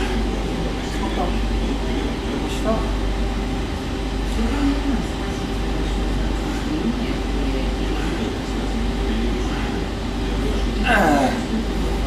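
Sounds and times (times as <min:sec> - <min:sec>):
faint indistinct voices: 0:00.0 - 0:12.0
low rumble of room noise: 0:00.0 - 0:12.0.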